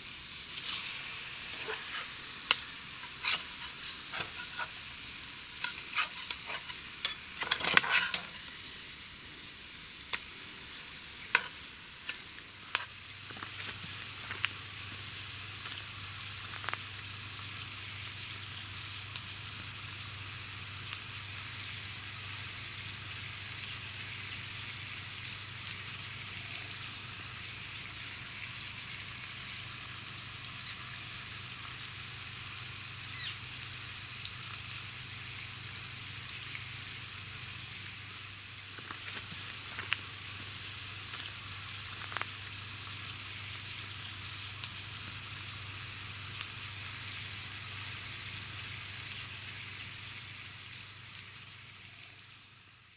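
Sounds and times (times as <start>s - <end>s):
fish sizzling in oil: 0.0s - 52.9s.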